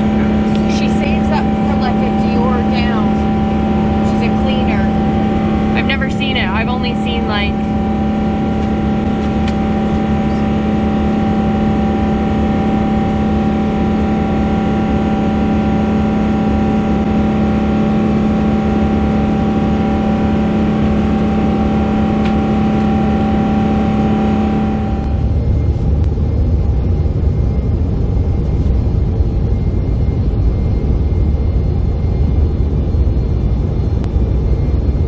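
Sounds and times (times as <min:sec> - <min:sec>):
airliner cabin engine hum: 0:00.0 - 0:35.0.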